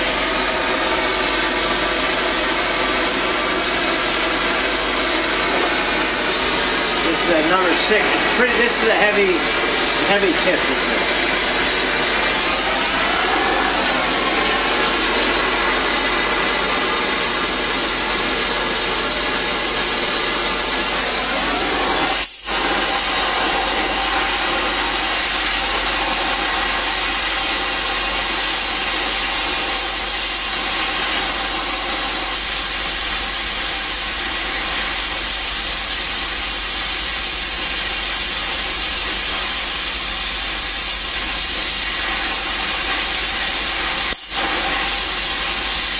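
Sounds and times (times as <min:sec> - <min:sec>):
welding torch flame hissing: 0:00.0 - 0:45.9.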